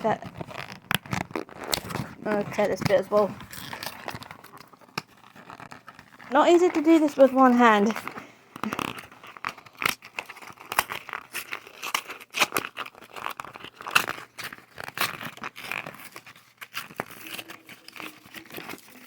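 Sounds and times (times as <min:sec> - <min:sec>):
cardboard being torn: 0:00.0 - 0:19.0.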